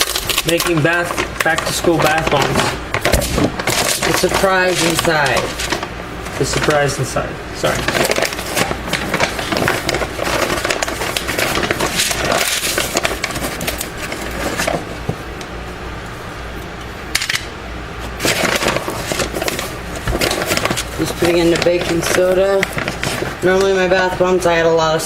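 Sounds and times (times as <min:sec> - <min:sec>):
room fan humming: 0:00.0 - 0:25.0.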